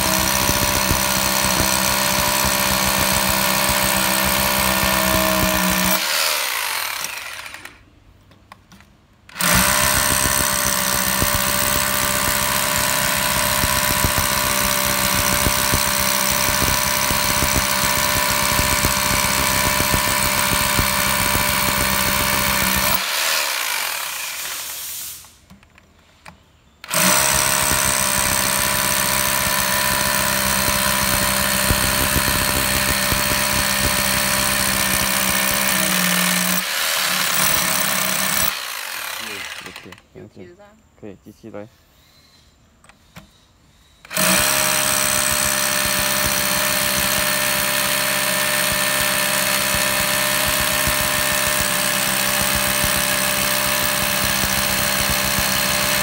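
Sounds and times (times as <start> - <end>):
impact drill hammering into concrete: 0.0 - 7.8, 9.3 - 24.8, 26.8 - 40.0, 44.0 - 56.0.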